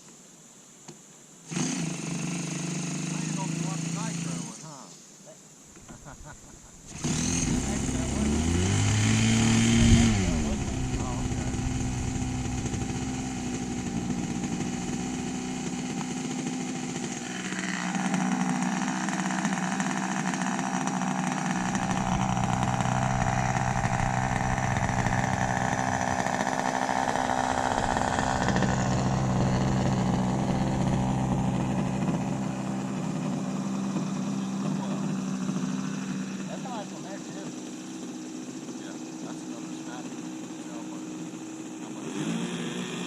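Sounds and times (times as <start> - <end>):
model airplane engine running: 1.5 - 4.6, 6.0 - 43.0.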